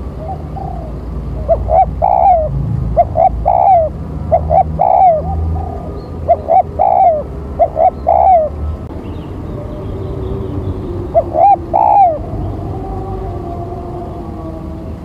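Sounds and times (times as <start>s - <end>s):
dove cooing: 0.0s - 8.7s, 9.5s - 15.0s.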